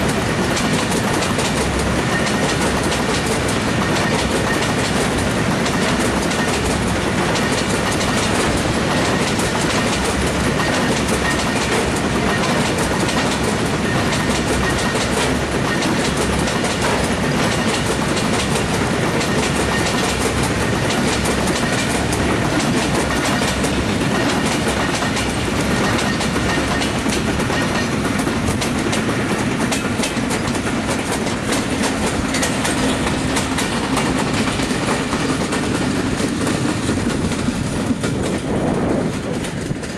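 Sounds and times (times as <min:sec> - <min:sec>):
train rumbling past: 0:00.0 - 0:39.9
wheels clacking over rail joints: 0:00.0 - 0:39.9.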